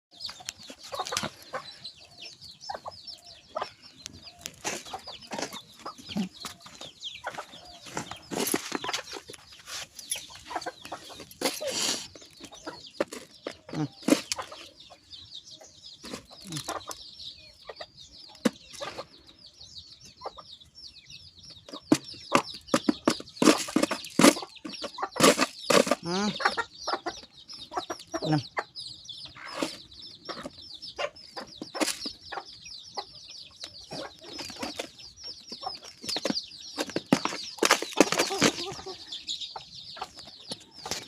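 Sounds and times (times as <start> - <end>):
chicks cheeping: 0.1 - 41.0.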